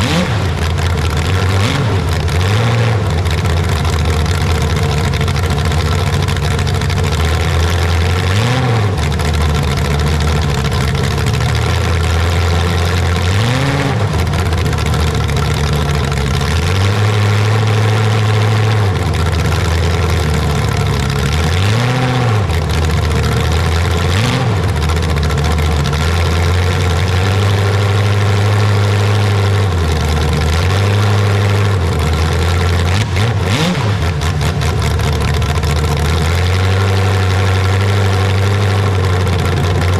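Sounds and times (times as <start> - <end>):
large engine idling and revving: 0.0 - 39.9.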